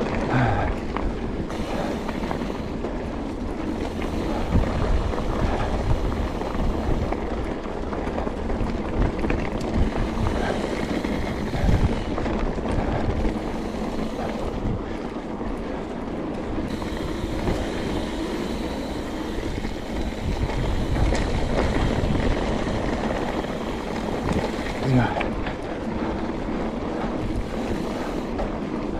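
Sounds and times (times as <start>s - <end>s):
bike knocking and rattling: 0.0s - 28.9s
bike tyres rolling on dirt: 0.0s - 28.9s
wind buffeting microphone: 0.0s - 28.9s.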